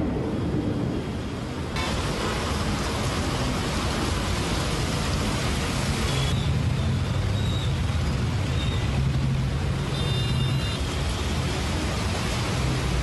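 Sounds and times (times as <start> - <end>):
heavy rain hissing: 0.0 - 13.0
traffic on a wet road: 0.0 - 13.0.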